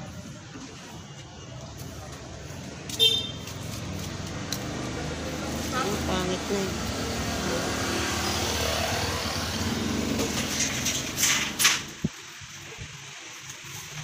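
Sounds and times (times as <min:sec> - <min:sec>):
vehicle engine rumbling: 0:00.0 - 0:12.6.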